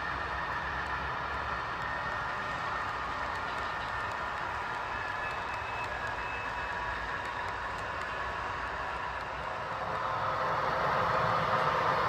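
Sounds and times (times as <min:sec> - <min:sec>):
model train cars rolling on track: 0:00.0 - 0:12.0.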